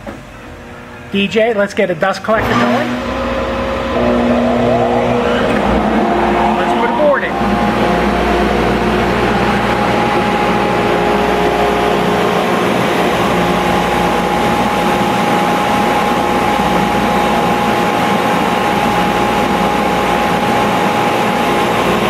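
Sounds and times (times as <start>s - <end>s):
dust collector running: 2.3s - 22.0s
drum sander running: 2.4s - 22.0s.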